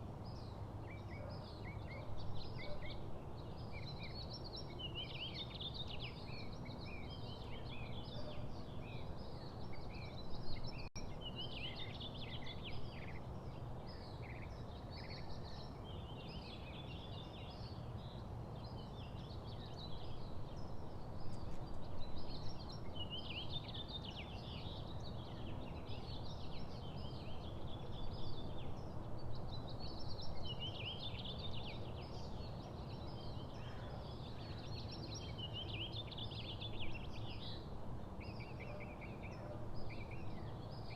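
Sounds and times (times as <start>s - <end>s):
low background noise: 0.0s - 40.9s
songbirds chirping: 0.0s - 40.9s.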